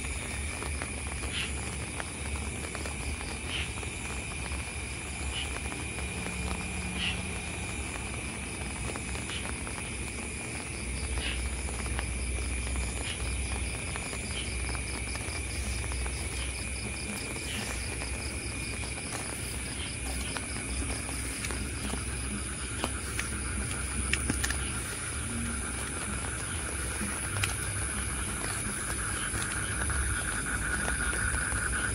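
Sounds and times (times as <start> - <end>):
crickets trilling: 0.0 - 31.9
fast pulsing insect call: 0.0 - 31.9
rain hissing: 0.0 - 31.9.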